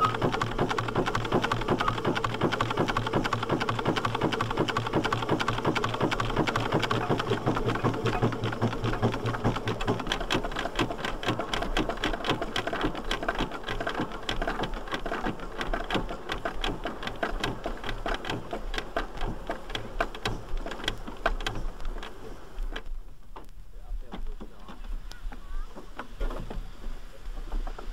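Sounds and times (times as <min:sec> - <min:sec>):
steam engine exhaust beats: 0:00.0 - 0:22.9
mechanical clatter: 0:00.0 - 0:23.5.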